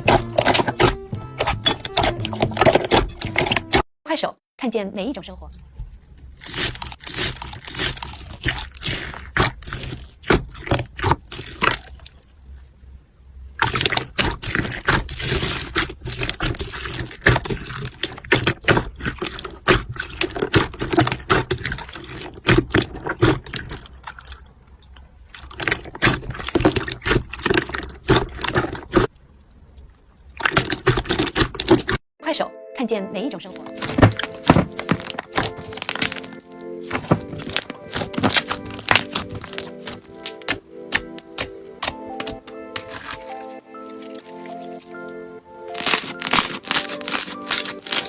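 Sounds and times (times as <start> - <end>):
slime squelching: 0.0 - 3.8, 6.3 - 12.8, 13.5 - 32.0, 33.5 - 48.0.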